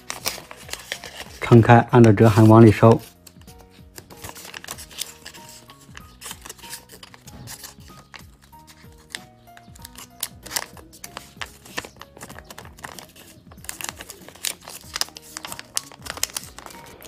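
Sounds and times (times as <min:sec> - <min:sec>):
paper crinkling and crackling: 0:00.0 - 0:17.0
soft background music: 0:00.0 - 0:17.0.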